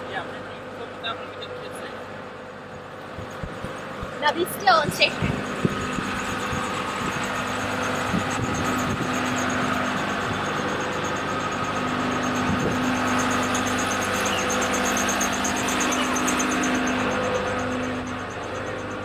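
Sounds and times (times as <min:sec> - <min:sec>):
constant hum: 0:00.0 - 0:19.0
lift engine running: 0:00.0 - 0:19.0.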